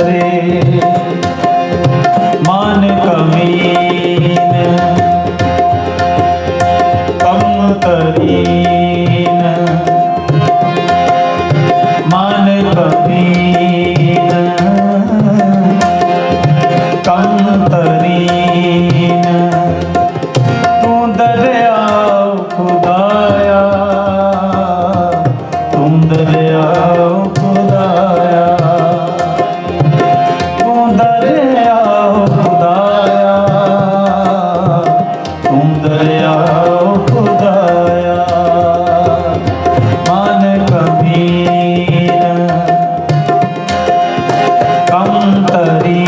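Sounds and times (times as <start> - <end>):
harmonium melody: 0.0 - 46.0
tabla playing a rhythm: 0.0 - 46.0.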